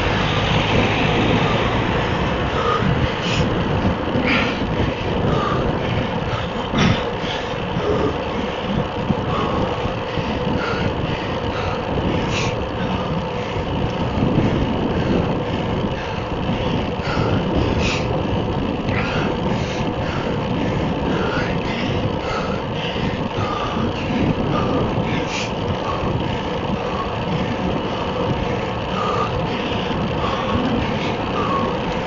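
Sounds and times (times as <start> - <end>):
road noise: 0.0 - 32.0
vehicle engine: 0.0 - 32.0
wind noise: 0.0 - 32.0.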